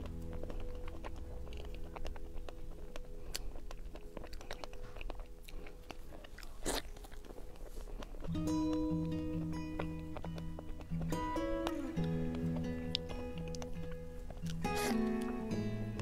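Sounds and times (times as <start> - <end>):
loud bite: 0.0 - 16.0
wet chewing clicks and smacks: 0.0 - 16.0.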